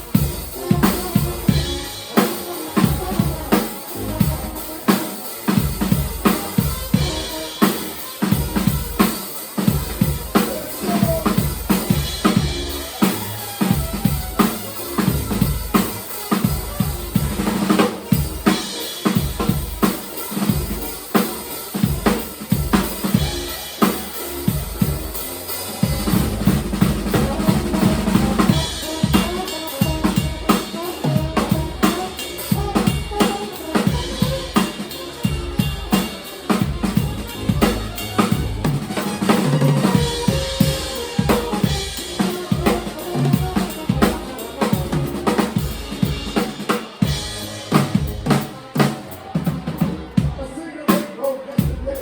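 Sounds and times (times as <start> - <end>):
band instruments: 0.0 - 52.0
drum kit playing: 0.0 - 52.0.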